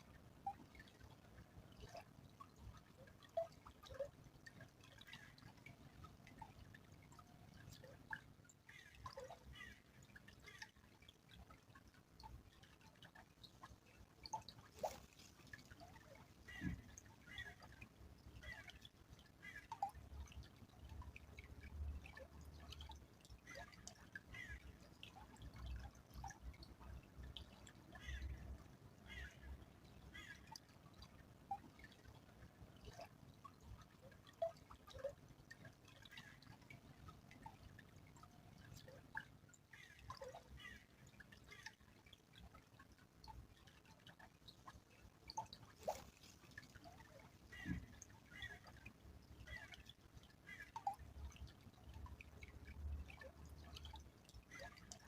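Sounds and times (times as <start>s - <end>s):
stream trickling: 0.0s - 55.0s
water dripping plinks: 0.0s - 55.0s.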